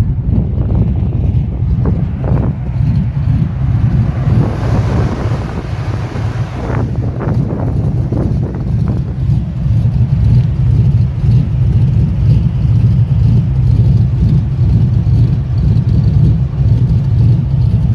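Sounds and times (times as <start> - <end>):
engine idling roughly: 0.0 - 17.9.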